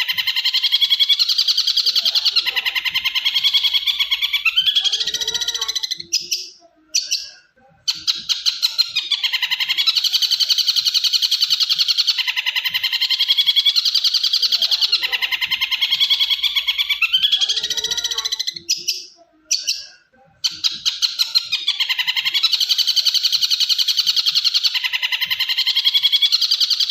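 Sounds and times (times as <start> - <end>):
bird chattering song: 0.0 - 26.9.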